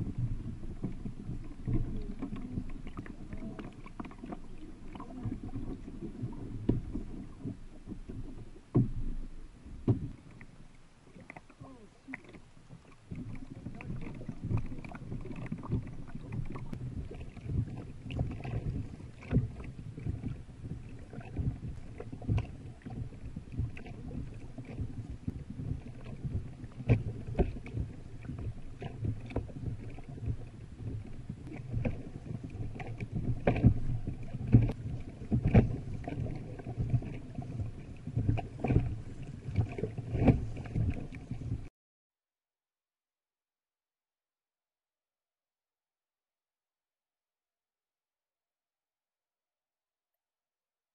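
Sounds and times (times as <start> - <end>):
water rushing against hull: 0.0 - 41.7.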